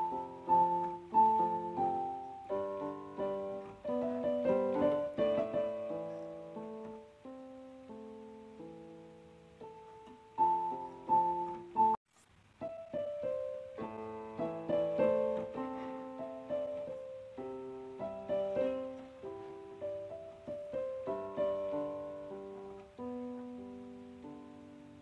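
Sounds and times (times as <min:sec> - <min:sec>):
piano melody: 0:00.0 - 0:12.0, 0:12.6 - 0:25.0.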